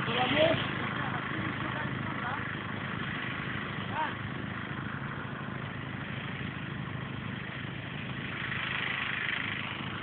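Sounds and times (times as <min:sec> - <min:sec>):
fire engine engine humming: 0:00.0 - 0:10.0.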